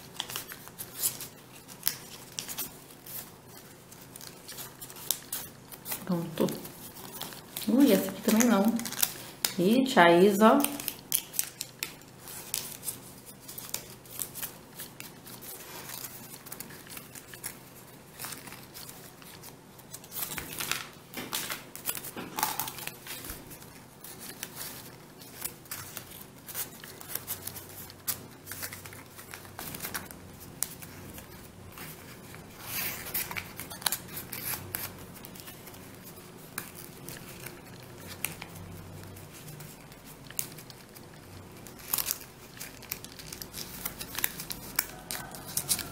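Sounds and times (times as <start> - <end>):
paper rustling and crinkling: 0.0 - 45.9.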